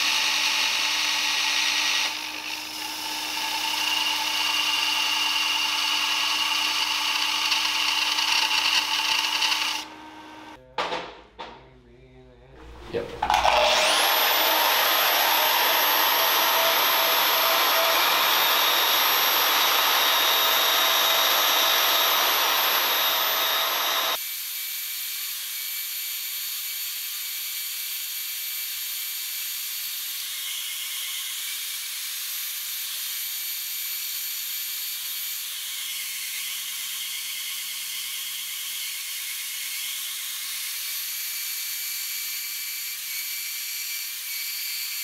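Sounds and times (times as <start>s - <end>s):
band saw cutting steel: 0.0s - 10.6s, 12.7s - 24.3s, 29.4s - 45.0s.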